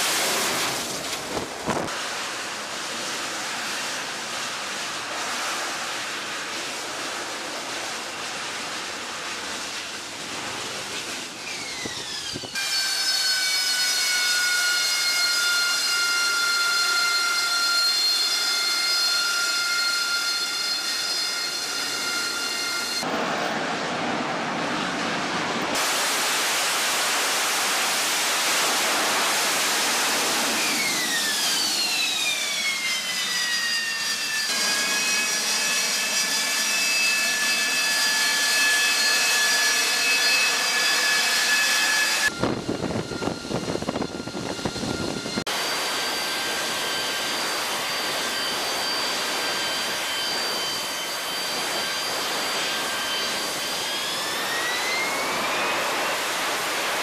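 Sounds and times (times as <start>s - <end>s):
jet engine roar and whine: 0.0s - 57.0s.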